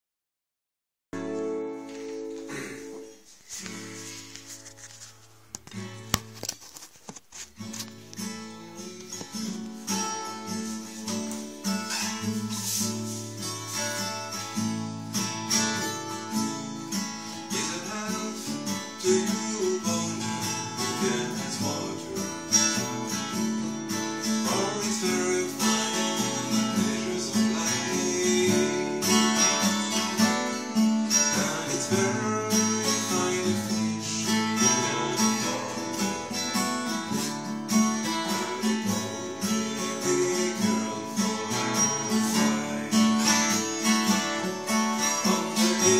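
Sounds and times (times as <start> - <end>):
acoustic guitar playing: 1.2 - 45.9.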